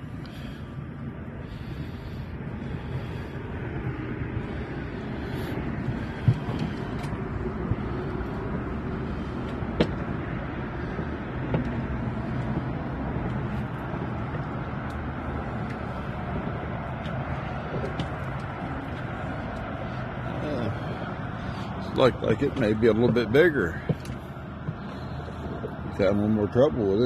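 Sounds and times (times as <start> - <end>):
low boat background noise: 0.0 - 27.0.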